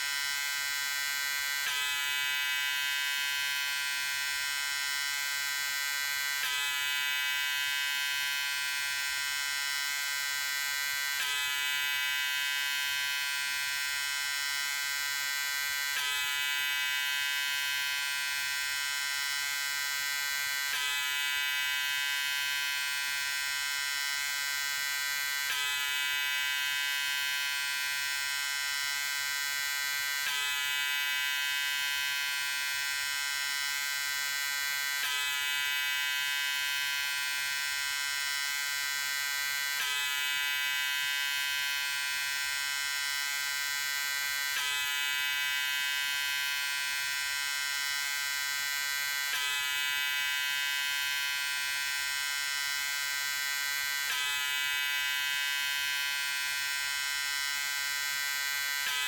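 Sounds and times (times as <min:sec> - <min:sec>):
electric shaver buzzing: 0:00.0 - 0:59.0.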